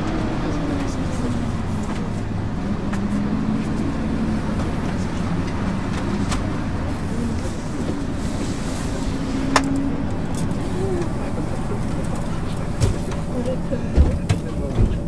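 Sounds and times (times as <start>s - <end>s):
bus diesel engine: 0.0s - 15.0s
low rumble of ride: 0.0s - 15.0s.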